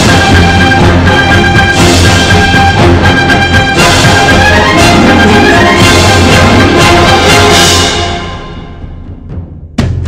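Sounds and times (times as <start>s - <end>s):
loud orchestral music: 0.0s - 9.1s.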